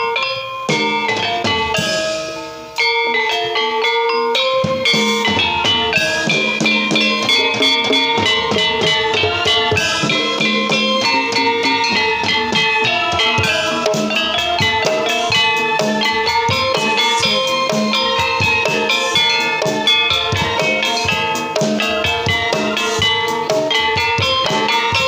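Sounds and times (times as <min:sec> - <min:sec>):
drums: 0:00.0 - 0:25.0
metallic struck percussion melody: 0:00.0 - 0:25.0.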